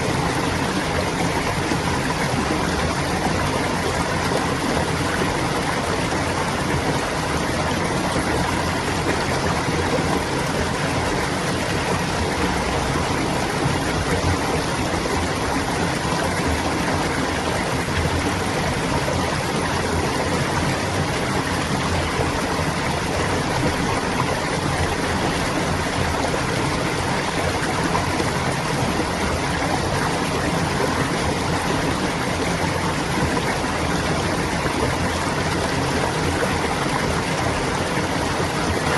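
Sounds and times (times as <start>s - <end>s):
water babbling along a stream: 0.0s - 38.9s.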